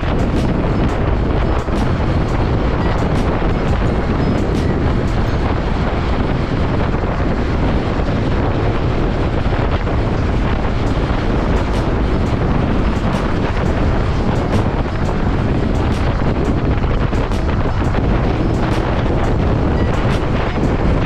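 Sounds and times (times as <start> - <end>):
motorcycle engine and road noise: 0.0 - 21.0
wind buffeting microphone: 0.0 - 21.0.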